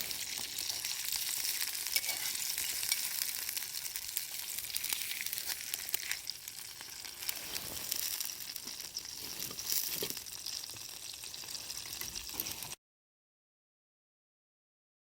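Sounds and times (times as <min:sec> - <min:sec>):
food sizzling over campfire: 0:00.0 - 0:12.8.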